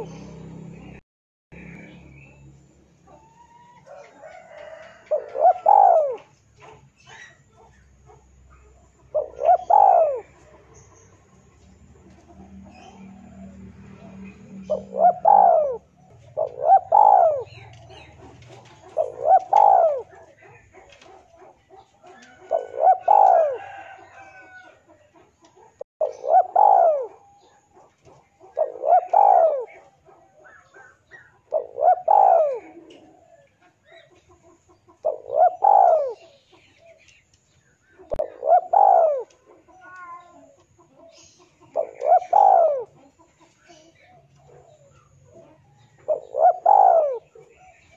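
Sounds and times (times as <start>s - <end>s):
dove cooing: 3.0s - 11.2s, 12.0s - 37.0s, 37.8s - 47.9s.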